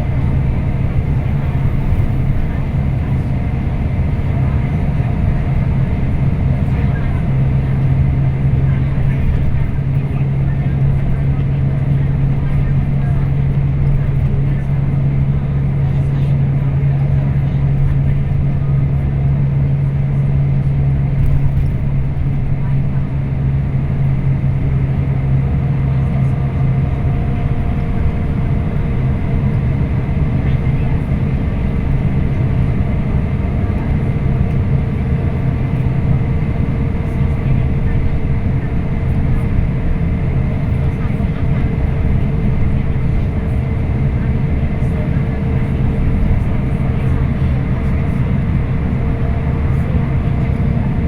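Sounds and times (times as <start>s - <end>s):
coach engine and road drone: 0.0s - 51.0s.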